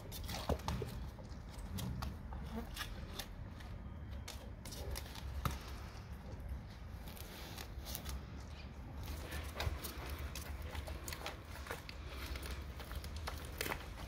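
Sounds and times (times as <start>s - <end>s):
dog chewing and crunching bones: 0.0s - 14.0s.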